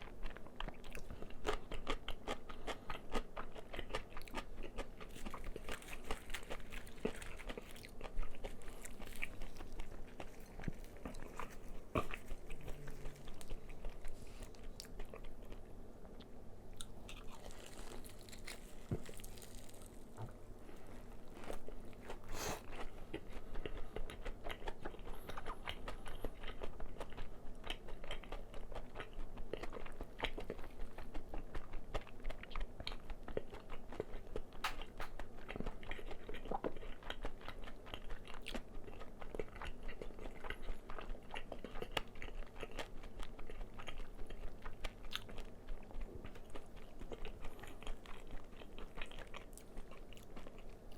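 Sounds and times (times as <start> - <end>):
crunchy chewing: 0.0 - 50.9.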